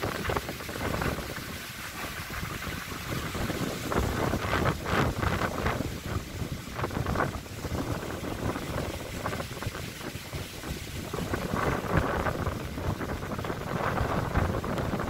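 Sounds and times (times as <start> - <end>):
gusty wind through trees: 0.0 - 15.0
wind buffeting microphone: 0.0 - 15.0.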